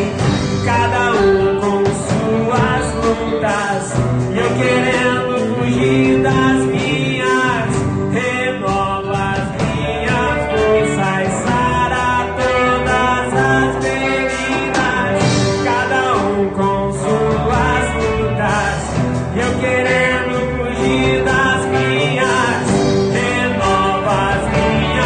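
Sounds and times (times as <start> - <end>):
worship song with band: 0.0 - 25.0.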